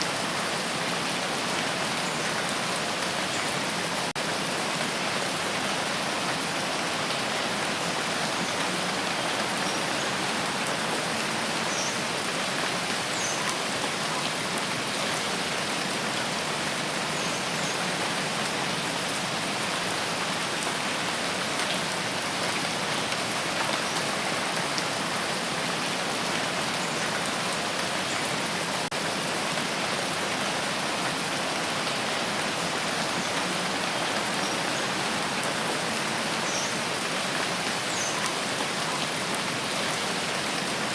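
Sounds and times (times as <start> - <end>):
dense rainfall: 0.0 - 40.9.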